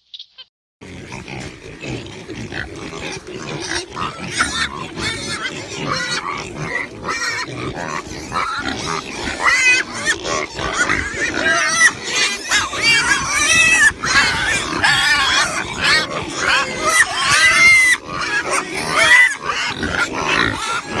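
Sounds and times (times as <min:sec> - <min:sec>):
pigs squealing and grunting: 0:00.8 - 0:21.0.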